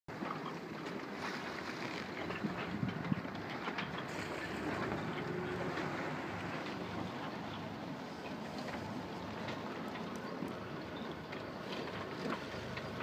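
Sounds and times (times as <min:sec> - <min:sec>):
water rushing along hull: 0:00.1 - 0:13.0
wind buffeting microphone: 0:01.5 - 0:13.0.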